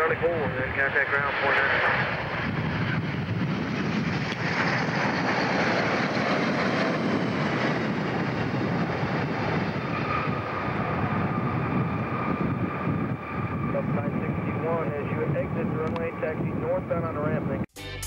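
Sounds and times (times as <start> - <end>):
airliner jet engines landing: 0.0 - 17.7
steady engine whine: 0.0 - 17.7.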